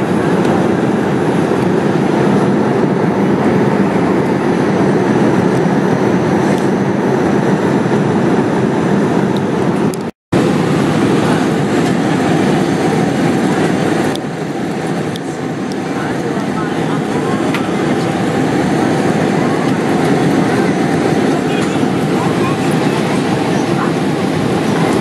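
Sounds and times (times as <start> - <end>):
jet airliner cabin roar: 0.0 - 25.0.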